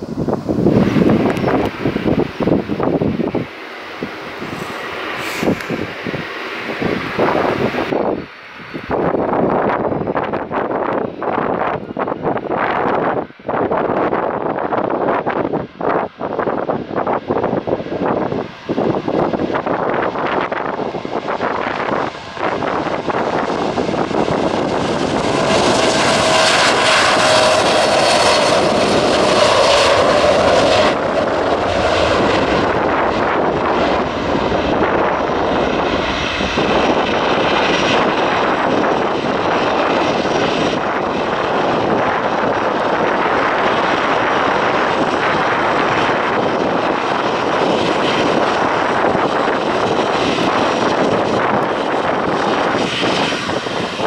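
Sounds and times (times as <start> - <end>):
jet engines at takeoff: 0.0 - 54.0.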